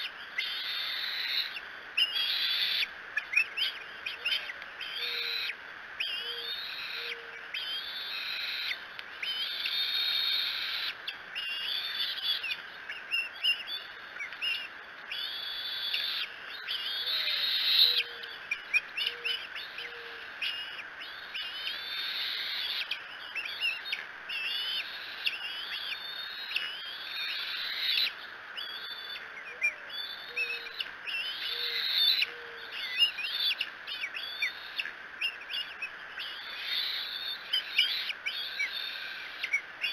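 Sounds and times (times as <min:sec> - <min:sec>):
birds warbling and chirping: 0:00.0 - 0:39.9.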